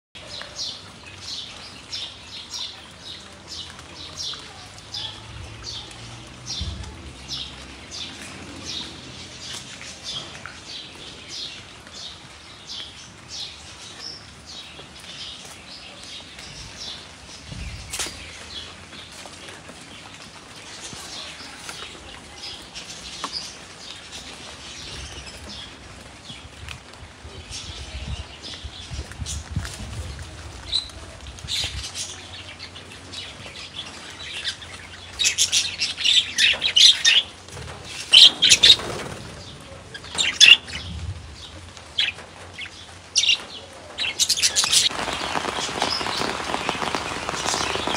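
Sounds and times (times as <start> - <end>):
small birds chirping: 0.2 - 47.9.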